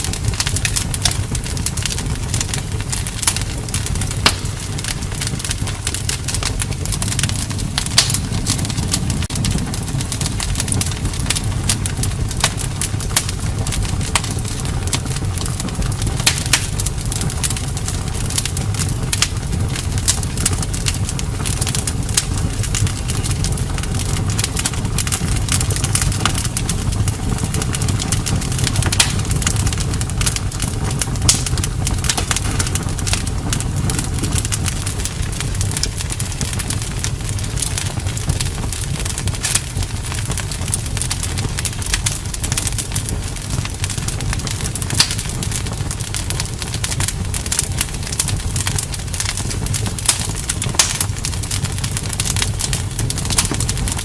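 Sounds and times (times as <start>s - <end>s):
campfire crackling and popping: 0.0s - 54.0s
low rumble of flames: 0.0s - 54.0s.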